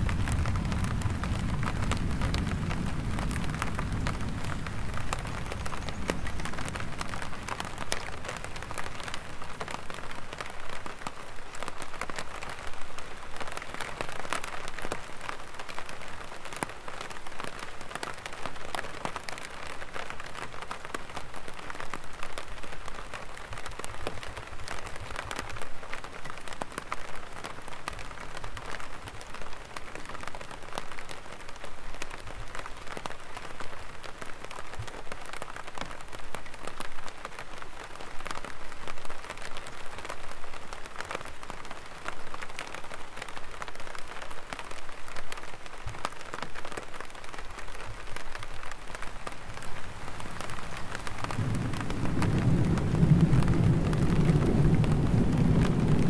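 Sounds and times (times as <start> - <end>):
light rain on an umbrella: 0.0 - 56.0.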